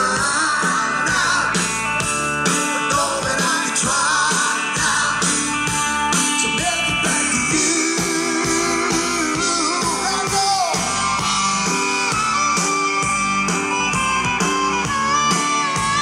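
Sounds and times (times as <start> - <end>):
drum beat: 0.0 - 16.0
electric guitar: 0.0 - 16.0
live rock band playing: 0.0 - 16.0.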